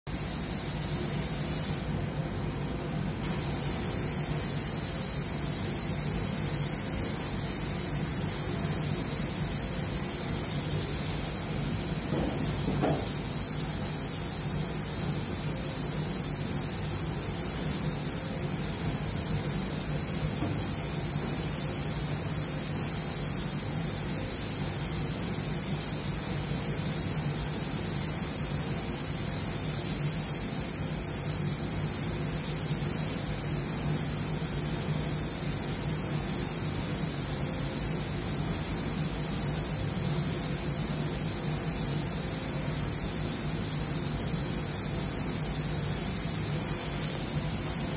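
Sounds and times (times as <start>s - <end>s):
paint spray gun hissing: 0.1s - 2.0s, 3.2s - 47.9s.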